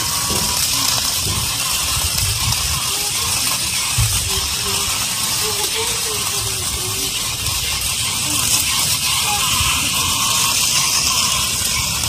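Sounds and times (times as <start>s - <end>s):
steady hiss: 0.0s - 12.0s
toy truck motors whirring: 0.0s - 12.0s.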